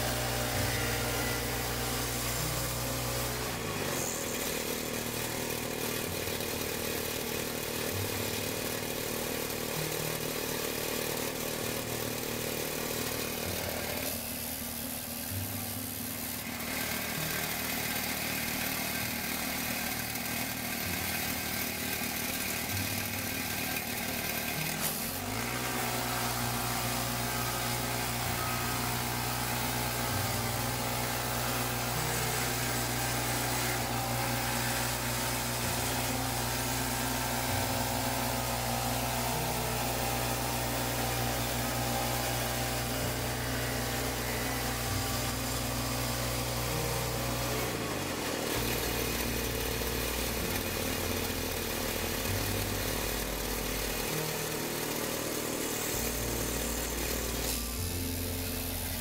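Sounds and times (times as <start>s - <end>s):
bandsaw mill gas engine: 0.0s - 59.0s.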